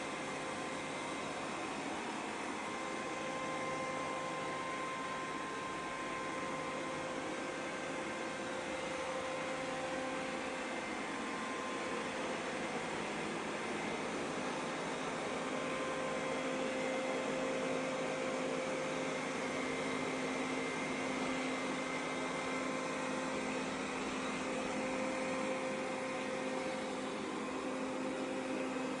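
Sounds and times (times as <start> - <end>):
robot vacuum cleaner whirring: 0.1 - 29.0.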